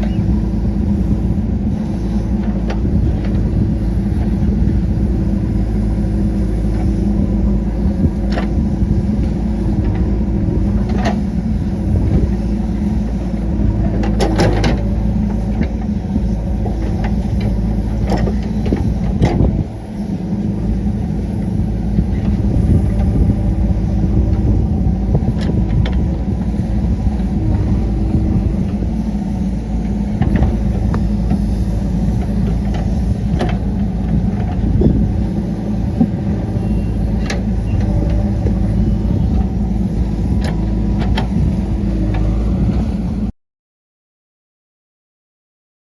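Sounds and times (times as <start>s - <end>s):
diesel engine running: 0.0s - 43.3s.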